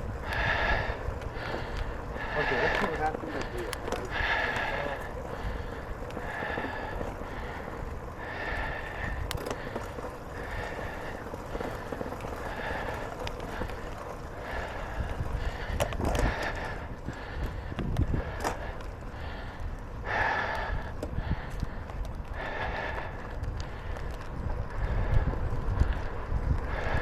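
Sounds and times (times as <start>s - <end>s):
cyclist breathing hard: 0.0s - 27.0s
tyres rumbling: 0.0s - 27.0s
wind on microphone: 3.6s - 27.0s.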